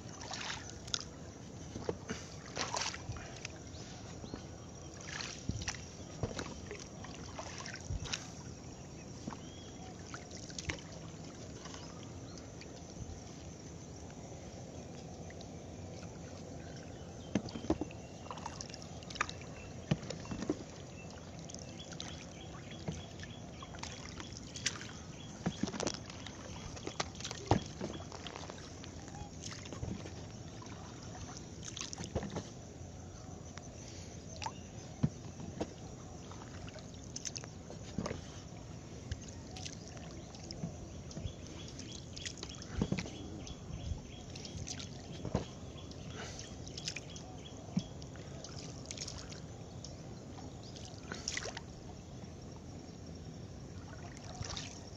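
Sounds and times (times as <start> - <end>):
water slopping against hull: 0.0 - 54.9.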